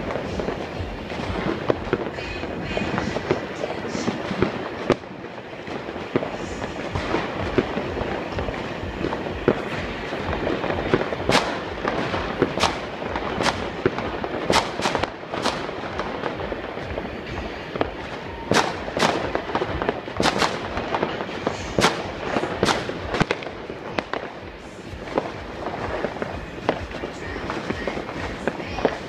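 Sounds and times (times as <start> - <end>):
firecrackers crackling: 0.0 - 29.0
fireworks bangs: 0.0 - 29.0.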